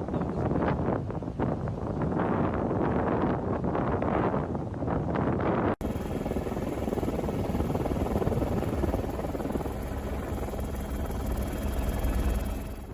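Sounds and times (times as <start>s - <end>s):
aircraft engine and rotor noise: 0.0s - 12.9s.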